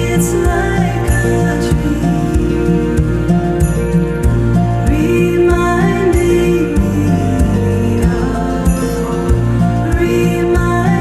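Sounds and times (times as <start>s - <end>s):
gentle background music: 0.0s - 11.0s.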